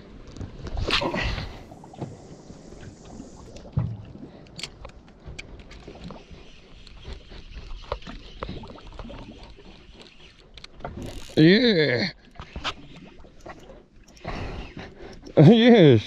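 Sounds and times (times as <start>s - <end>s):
water lapping against hull: 0.0s - 16.0s.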